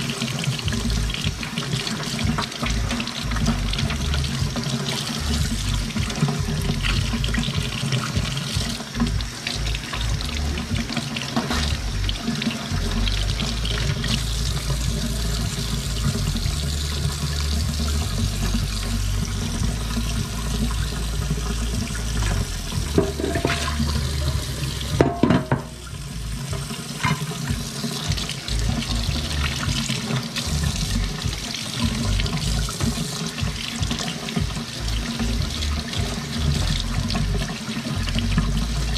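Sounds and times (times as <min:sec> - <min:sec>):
faucet water into steel sink: 0:00.0 - 0:38.9.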